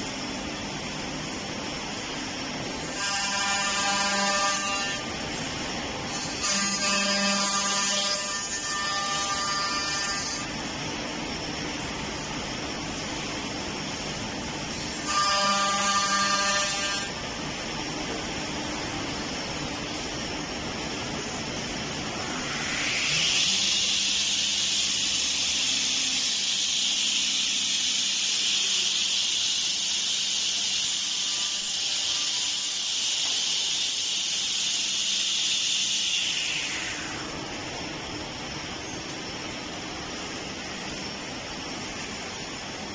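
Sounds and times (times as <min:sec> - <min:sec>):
spindle high whine with hiss: 0:00.0 - 0:42.9.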